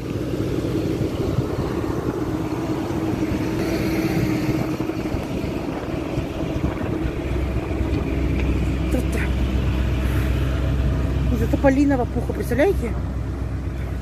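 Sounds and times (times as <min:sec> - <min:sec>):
fire truck engine running: 0:00.0 - 0:14.0.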